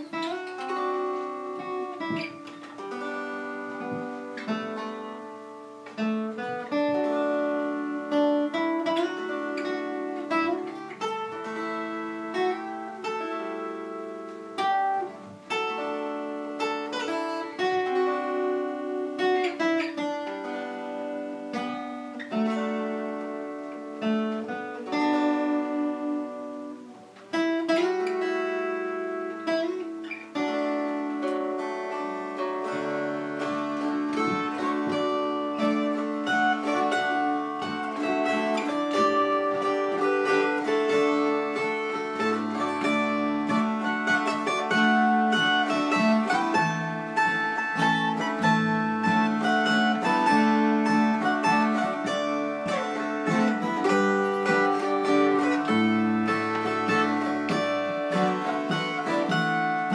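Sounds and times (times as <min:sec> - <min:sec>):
acoustic guitar picked melody: 0:00.0 - 0:59.9.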